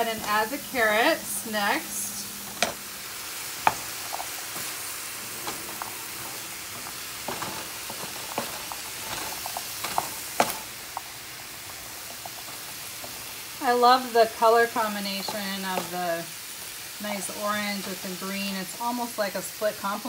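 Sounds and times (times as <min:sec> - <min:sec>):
vegetables sizzling in a skillet: 0:00.0 - 0:20.0.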